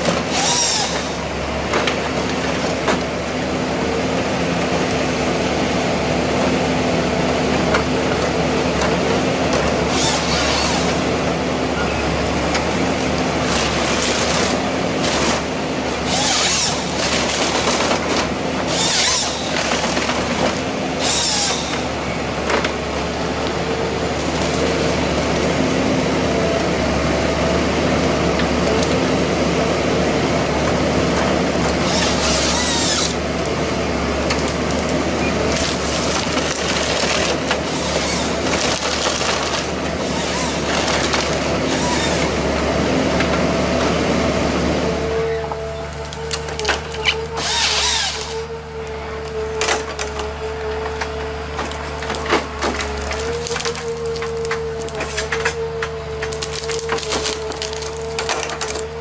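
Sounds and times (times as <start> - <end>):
heavy machinery humming: 0.0 - 59.0.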